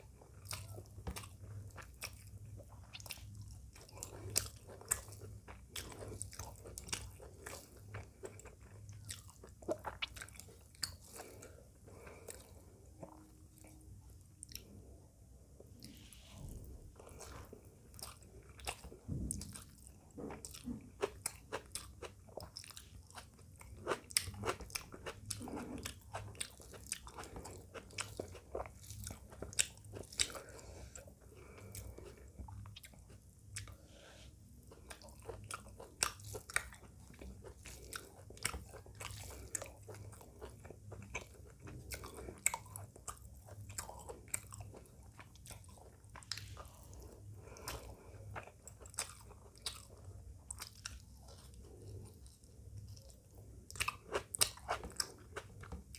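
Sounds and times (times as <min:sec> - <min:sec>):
close chewing and crunching: 0:00.0 - 0:14.9, 0:15.6 - 0:55.9.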